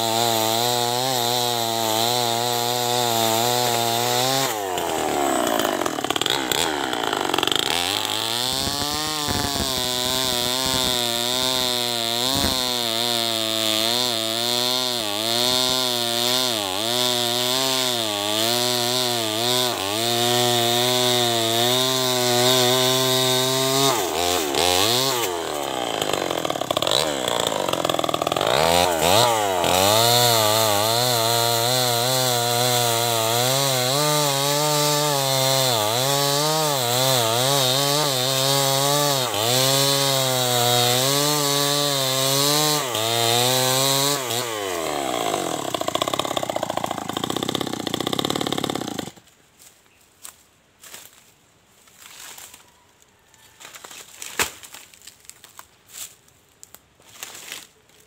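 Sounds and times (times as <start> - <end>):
chainsaw cutting log: 0.0 - 49.3.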